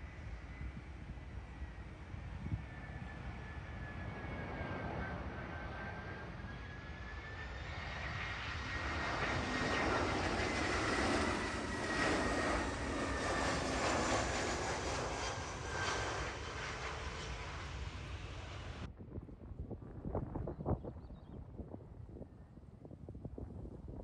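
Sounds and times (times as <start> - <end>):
jet passing low overhead: 0.0 - 24.0.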